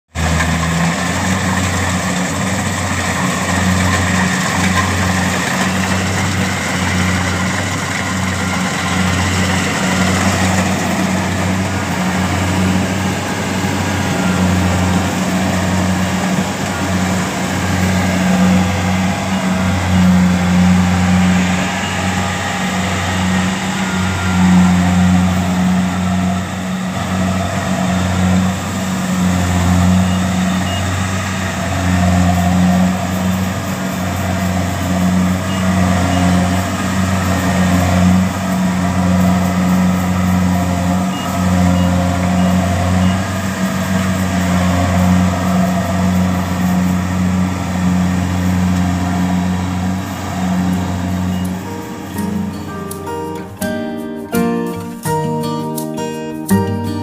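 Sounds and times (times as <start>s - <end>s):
combine harvester diesel engine: 0.1s - 55.2s.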